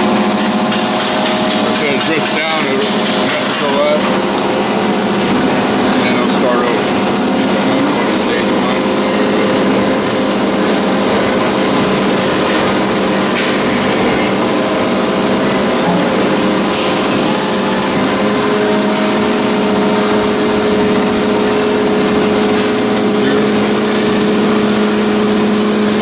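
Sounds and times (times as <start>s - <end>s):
press brake machine hum: 0.0s - 26.0s.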